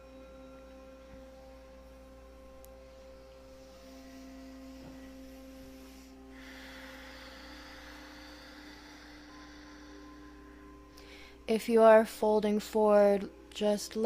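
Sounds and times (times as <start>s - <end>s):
soft hiss: 0.0s - 11.6s
ambient drone music: 0.0s - 14.0s.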